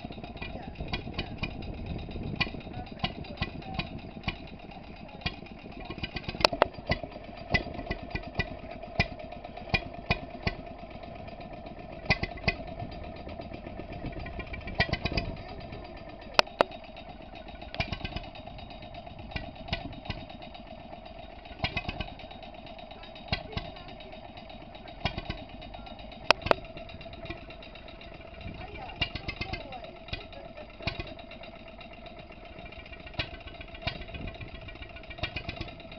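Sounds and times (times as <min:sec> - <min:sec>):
stationary engine popping: 0:00.0 - 0:35.9.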